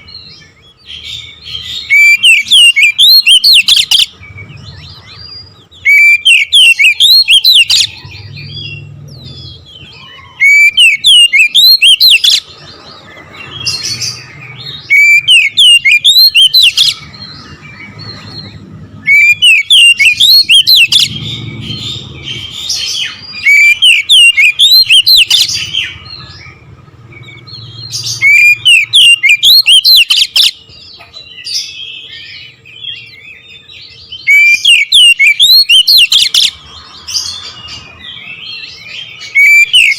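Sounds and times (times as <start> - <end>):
bird singing rolling notes: 0.0 - 39.9.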